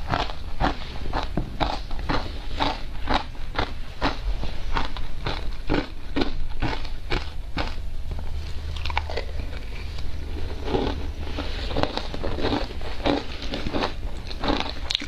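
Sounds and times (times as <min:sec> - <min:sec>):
ice being bitten and chewed: 0:00.0 - 0:07.8, 0:08.7 - 0:15.0.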